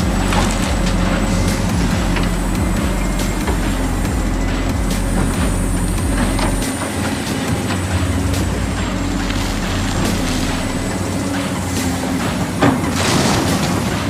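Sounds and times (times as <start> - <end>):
miniature truck engine drone: 0.0 - 14.0.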